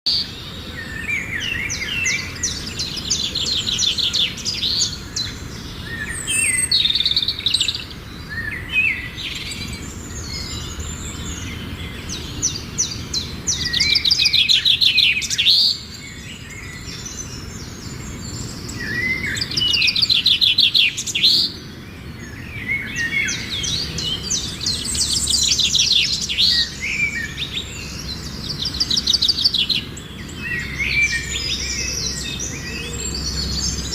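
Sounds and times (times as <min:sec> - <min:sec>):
birds chirping and calling: 0:00.1 - 0:33.9.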